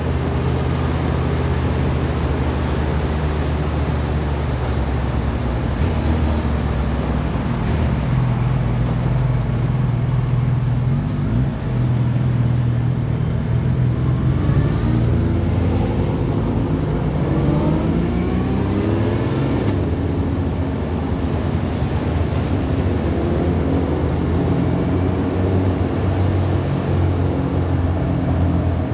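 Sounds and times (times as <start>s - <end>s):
motorcycle engines: 0.0s - 28.9s
wind and road noise: 0.0s - 28.9s.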